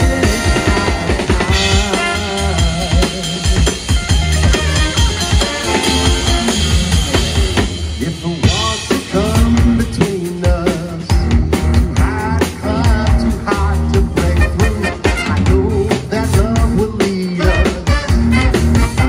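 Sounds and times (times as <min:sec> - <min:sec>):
drum kit with snare rimshots: 0:00.0 - 0:19.0
swing band playing: 0:00.0 - 0:19.0.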